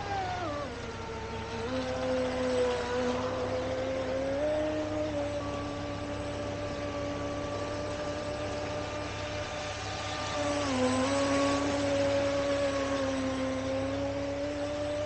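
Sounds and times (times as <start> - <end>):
electric motors whining: 0.0 - 15.0
water rushing: 0.0 - 15.0.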